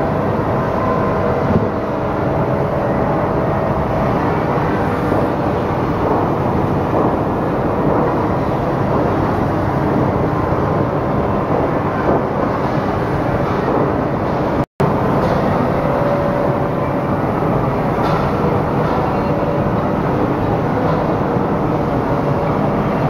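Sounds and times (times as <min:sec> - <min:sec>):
other factory machines: 0:00.0 - 0:23.0.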